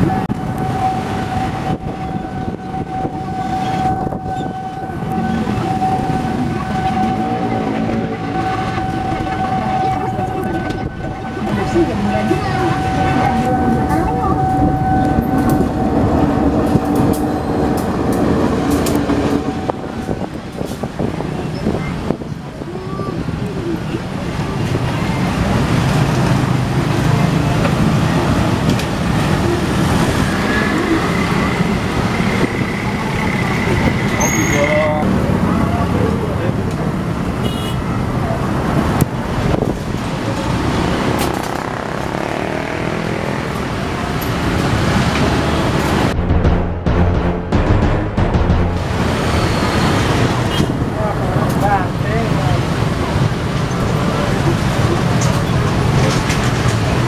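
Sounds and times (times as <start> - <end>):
motorbikes: 0.0 - 46.2, 48.8 - 57.0
street traffic: 0.0 - 47.6, 48.4 - 57.0
diesel locomotive engine drone: 0.0 - 57.0.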